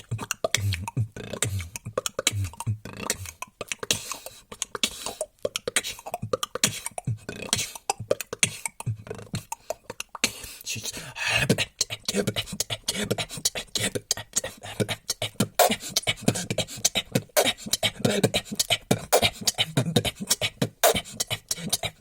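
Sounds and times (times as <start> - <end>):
person beatboxing: 0.0 - 22.0.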